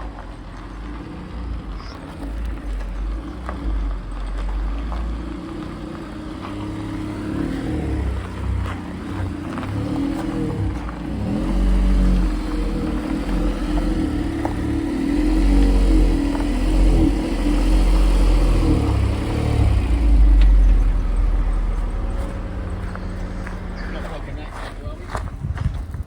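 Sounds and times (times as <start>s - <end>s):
car engine revving under load: 0.0s - 26.0s.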